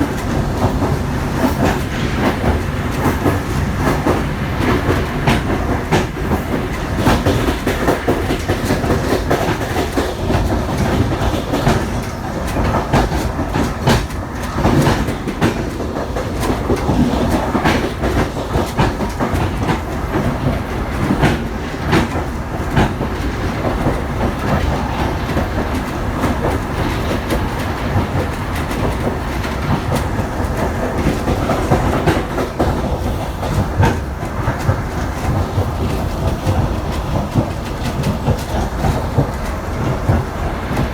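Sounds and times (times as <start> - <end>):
train wheels rumbling on rails: 0.0 - 40.9
wheels clicking over rail joints: 0.0 - 40.9.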